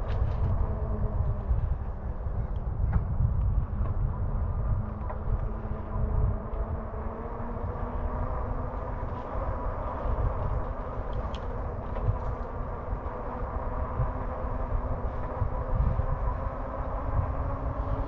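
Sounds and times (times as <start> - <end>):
electric bike motor and tyres hum: 0.0 - 18.0
wind rumbling on microphone: 0.0 - 18.0.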